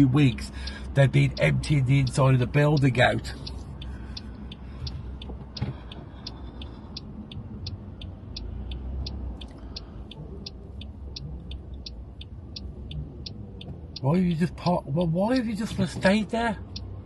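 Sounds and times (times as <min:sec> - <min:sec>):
turn signal ticking: 0:00.0 - 0:17.0.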